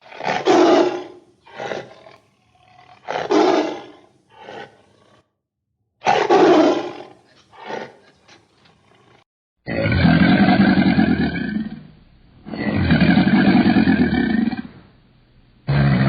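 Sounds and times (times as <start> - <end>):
large animal roaring: 0.0 - 5.3, 6.0 - 14.9, 15.7 - 16.0.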